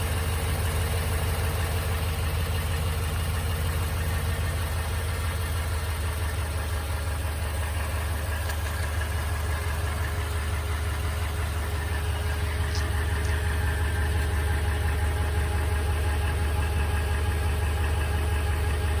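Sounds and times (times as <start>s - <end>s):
engine idling: 0.0s - 19.0s
engine ticking: 0.0s - 19.0s.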